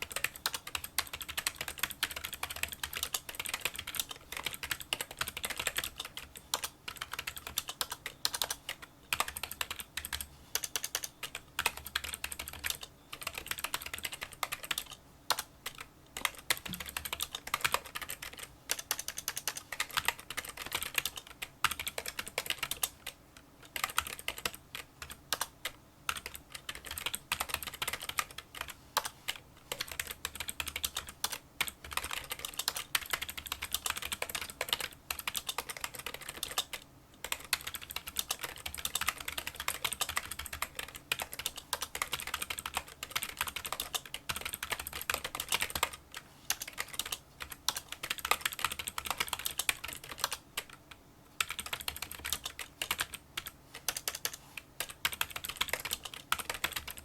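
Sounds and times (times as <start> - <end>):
fast typing on keyboard: 0.0 - 57.0.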